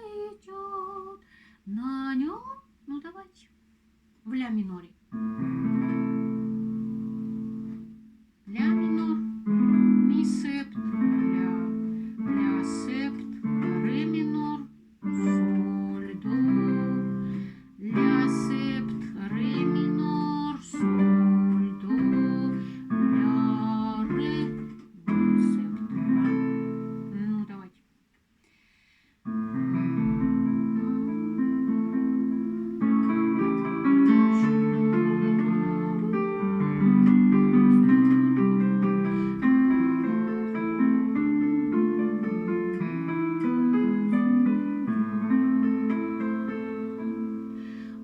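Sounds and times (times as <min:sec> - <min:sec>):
acoustic guitar strumming chords: 0:05.4 - 0:27.3, 0:29.6 - 0:47.9.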